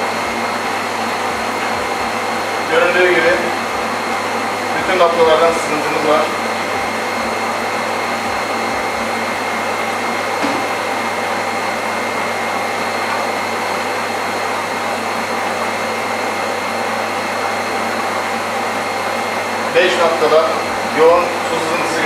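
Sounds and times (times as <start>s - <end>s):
electric pressure pump running: 0.0s - 22.0s
water jets hissing from pipe: 0.0s - 22.0s.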